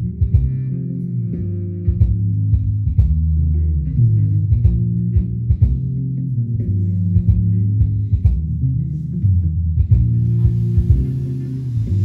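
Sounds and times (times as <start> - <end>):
deep bass line: 0.0 - 12.0.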